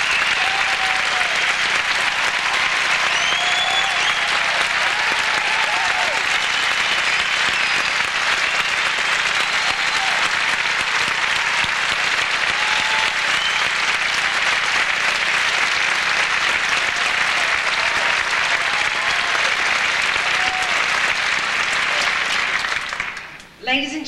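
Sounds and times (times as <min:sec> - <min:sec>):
audience applauding: 0:00.0 - 0:23.4.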